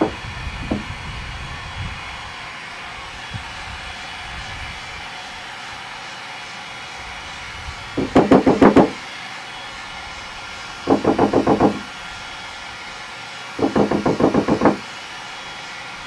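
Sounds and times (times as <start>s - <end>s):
heat gun blowing hiss: 0.0s - 16.0s.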